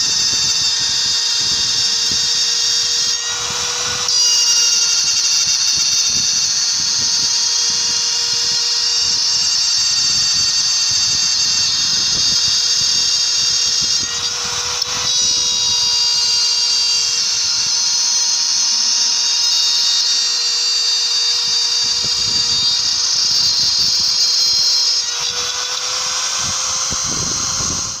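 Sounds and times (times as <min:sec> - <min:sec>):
router spindle high-pitched whine: 0:00.0 - 0:28.0.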